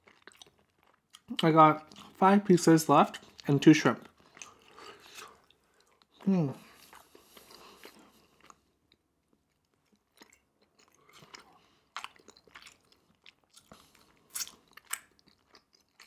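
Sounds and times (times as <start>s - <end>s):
chewing food with mouth smacks: 0.0s - 2.2s, 3.1s - 16.0s.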